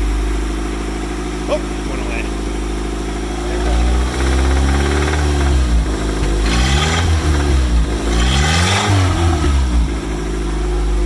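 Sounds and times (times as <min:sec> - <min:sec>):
car engine idling and revving: 0:00.0 - 0:11.0
engine knocking: 0:01.2 - 0:11.0.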